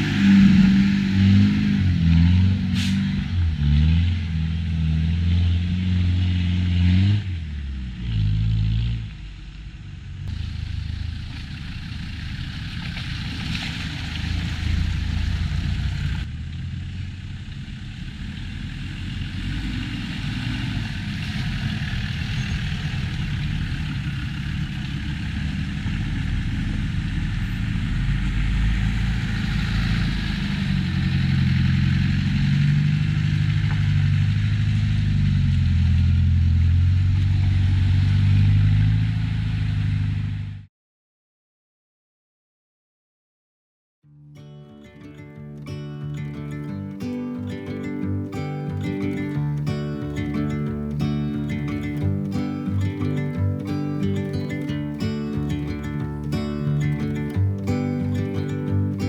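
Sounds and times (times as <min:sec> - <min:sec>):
engine working hard: 0:00.0 - 0:40.7, 0:46.6 - 0:59.0
rough low vehicle rumble: 0:00.0 - 0:40.7, 0:45.6 - 0:59.0.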